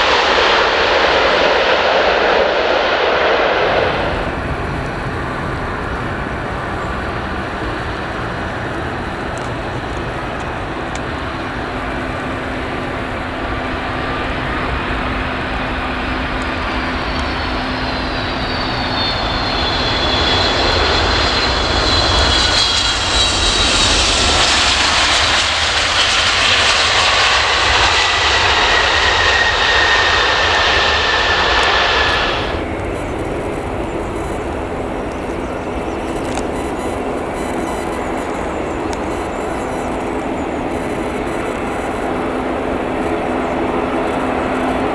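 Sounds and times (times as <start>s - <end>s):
jet engine whine passing: 0.0s - 44.9s.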